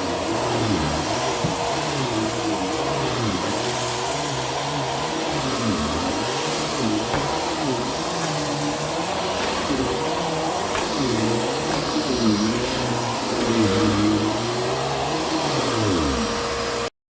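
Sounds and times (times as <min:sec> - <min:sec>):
vacuum cleaner running: 0:00.0 - 0:16.9.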